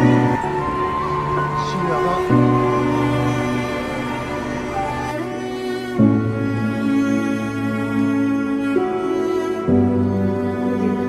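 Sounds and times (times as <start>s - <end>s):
slow sad string music: 0.0s - 11.0s.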